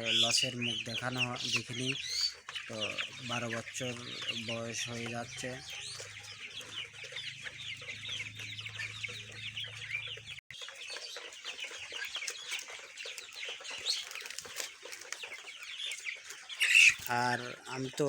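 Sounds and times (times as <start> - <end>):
chickens peeping and clucking: 0.0 - 18.0.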